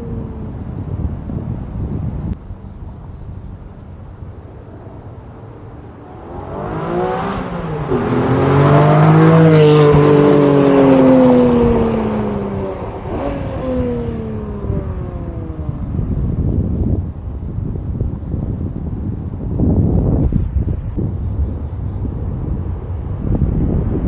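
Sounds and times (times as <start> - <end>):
car exhaust accelerating: 0.0 - 24.0.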